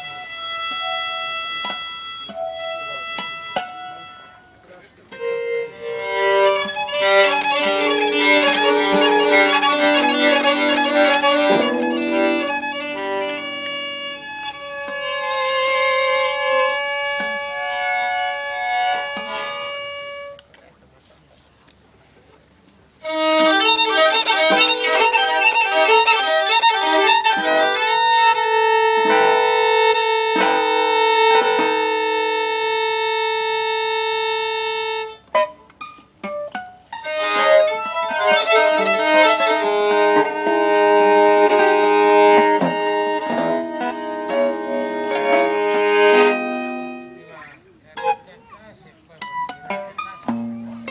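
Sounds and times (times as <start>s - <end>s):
violin improvisation: 0.0s - 20.4s, 23.0s - 50.9s.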